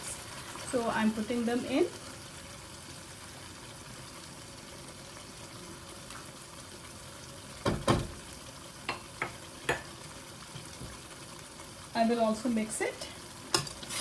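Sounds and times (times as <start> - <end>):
curry sizzling in a pot: 0.0 - 14.0.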